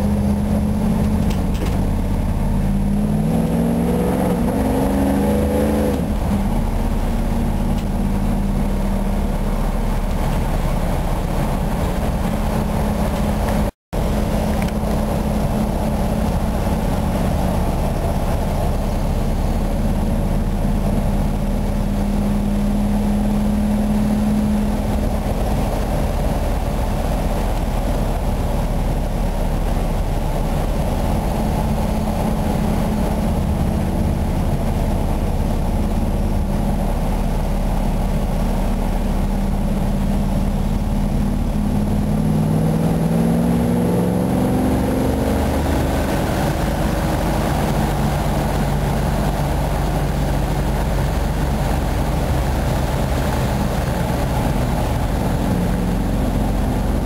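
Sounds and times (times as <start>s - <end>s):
road noise: 0.0s - 57.0s
van engine running: 0.0s - 57.0s.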